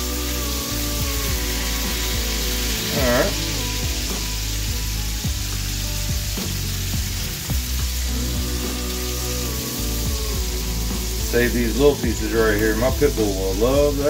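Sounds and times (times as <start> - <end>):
background music: 0.0 - 14.0
fish sizzling in hot oil: 0.0 - 14.0.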